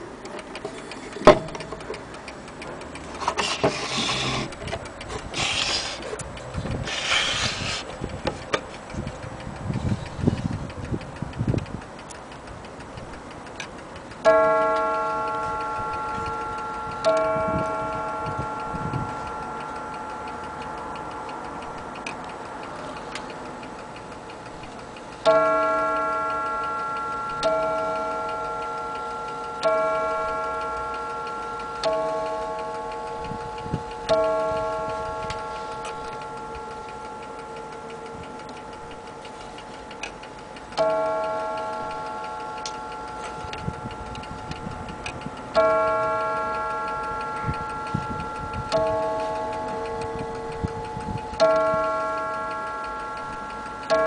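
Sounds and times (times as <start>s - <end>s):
clock movement ticking faintly: 0.0s - 54.0s
mantel clock striking: 0.0s - 54.0s.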